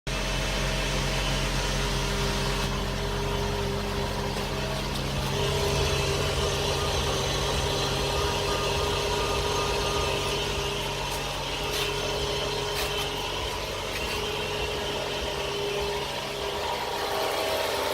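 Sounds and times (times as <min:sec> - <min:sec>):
car engine idling hum: 0:00.1 - 0:17.9.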